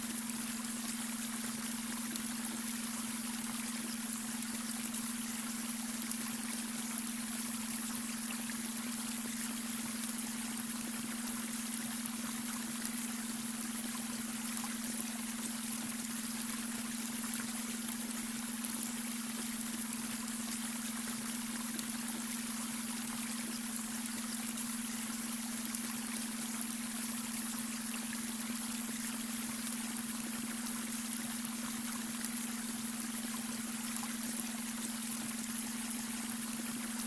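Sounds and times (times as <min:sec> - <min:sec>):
brook water running: 0:00.0 - 0:37.0
steady low hum tone: 0:00.0 - 0:37.0.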